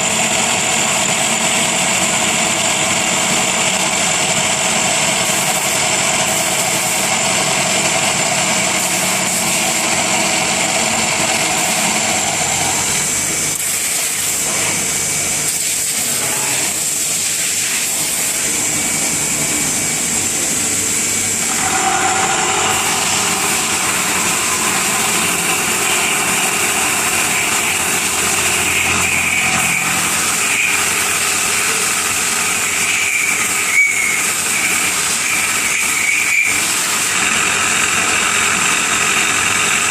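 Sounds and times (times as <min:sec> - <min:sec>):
machine tool humming: 0:00.0 - 0:39.9.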